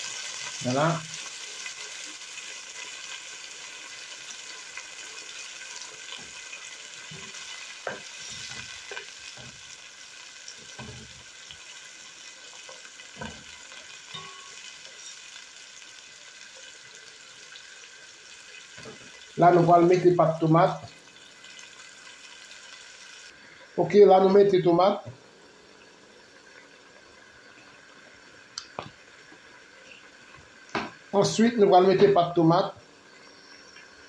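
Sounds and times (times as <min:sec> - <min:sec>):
vegetables sizzling in pan: 0:00.0 - 0:34.0.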